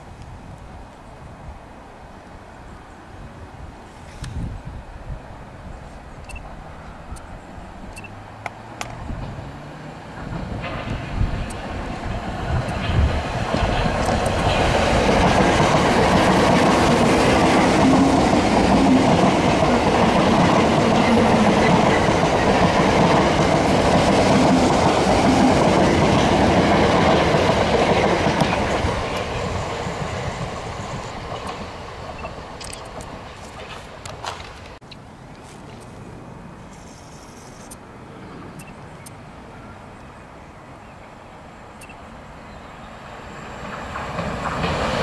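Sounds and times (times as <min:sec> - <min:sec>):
electric train passing: 0:04.6 - 0:35.3, 0:36.0 - 0:45.0.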